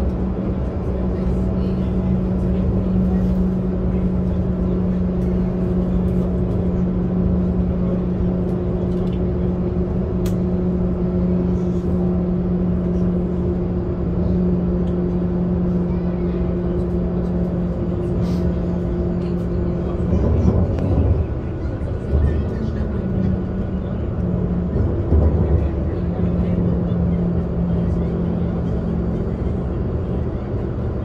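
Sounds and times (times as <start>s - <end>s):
electric train hum: 0.0s - 31.0s
wheels rumbling on rail: 0.0s - 31.0s.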